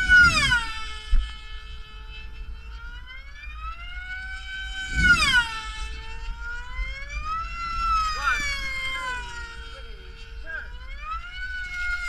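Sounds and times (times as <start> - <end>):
model plane engine high-pitched whine: 0.0 - 12.0.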